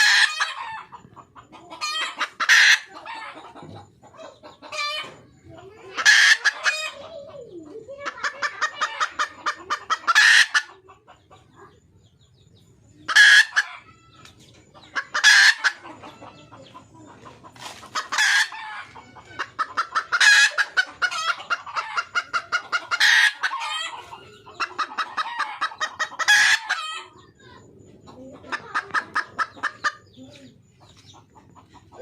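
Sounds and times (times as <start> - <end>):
hen cackling calls: 0.0 - 1.0, 1.6 - 5.2, 5.9 - 10.9, 13.1 - 32.0
hen clucking: 0.0 - 32.0.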